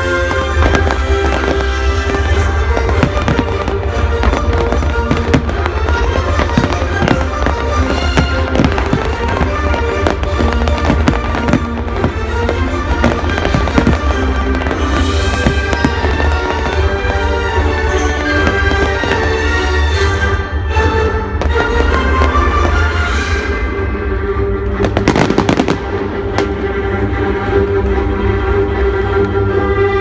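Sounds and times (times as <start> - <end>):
fireworks bangs and crackles: 0.0 - 29.4.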